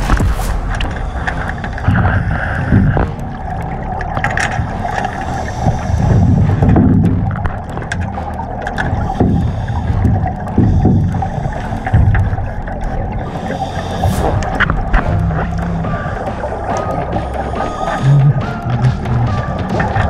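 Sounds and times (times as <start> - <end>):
underwater bubbles gurgling: 0.0 - 20.0.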